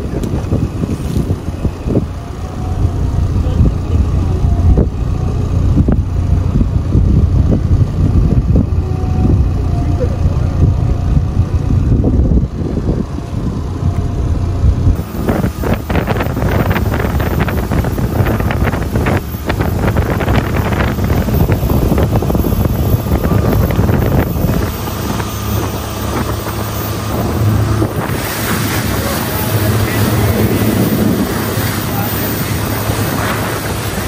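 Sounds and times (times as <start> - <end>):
motorboat engine running: 0.0 - 34.0
wind buffeting microphone: 0.0 - 34.0.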